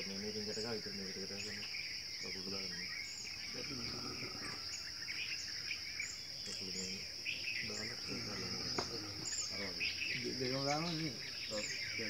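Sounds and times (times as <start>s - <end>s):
night insects chorus: 0.0s - 12.0s
short chirping calls: 0.0s - 12.0s.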